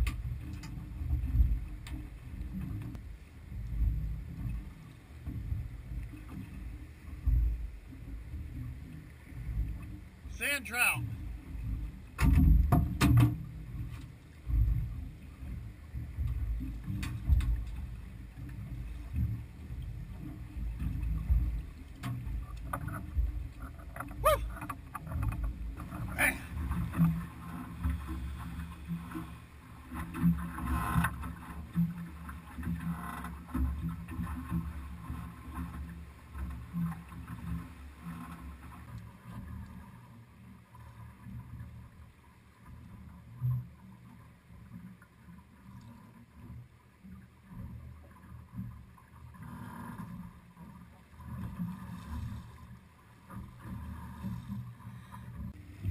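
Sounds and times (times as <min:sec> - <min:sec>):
water slapping boat hull: 0:00.0 - 0:55.9.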